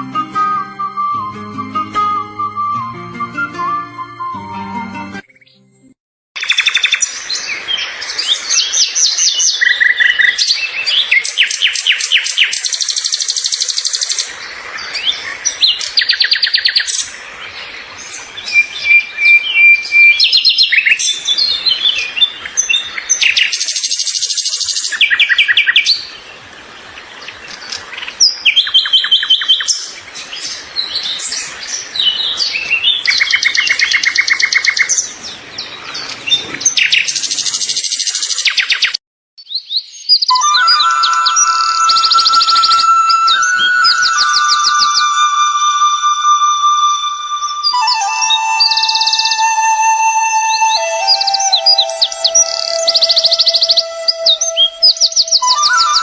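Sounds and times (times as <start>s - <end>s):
songbirds chirping and singing: 6.4s - 56.0s.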